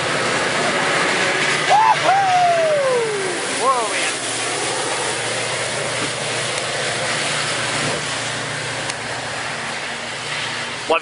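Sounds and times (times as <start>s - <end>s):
diesel locomotive engine drone: 0.0s - 11.0s
train wheel and rail noise: 0.0s - 11.0s.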